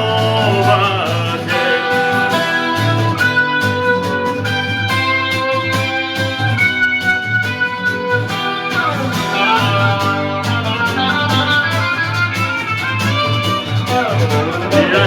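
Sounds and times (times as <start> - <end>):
instrumental rock guitar music: 0.0 - 15.0
steady beat: 0.0 - 15.0.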